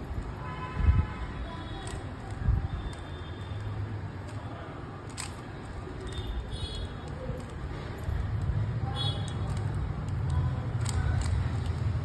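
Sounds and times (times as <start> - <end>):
plastic puzzle cube clicking: 1.7 - 12.0.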